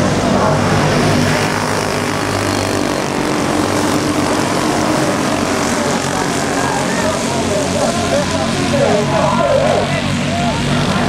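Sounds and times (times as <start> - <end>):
go-kart engines racing: 0.0 - 11.0.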